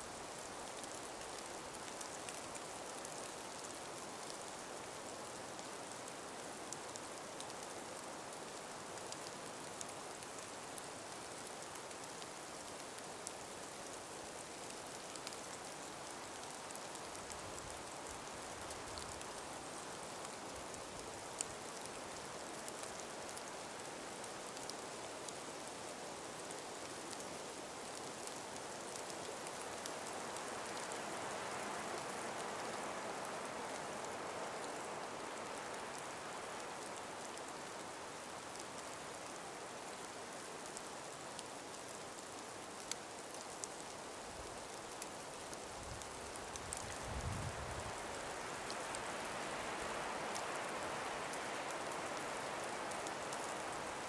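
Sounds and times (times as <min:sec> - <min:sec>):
breeze through trees: 0:00.0 - 0:54.0
small ticks: 0:00.8 - 0:04.7, 0:05.5 - 0:54.0.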